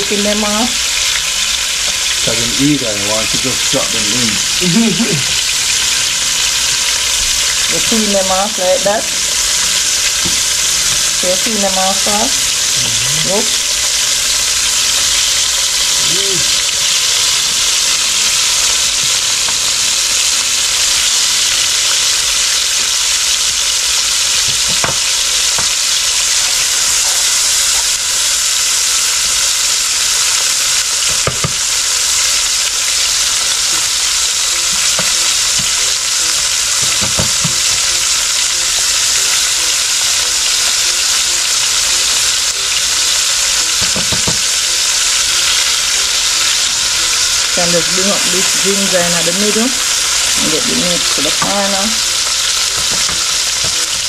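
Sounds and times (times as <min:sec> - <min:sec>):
meat sizzling in hot oil: 0:00.0 - 0:54.0.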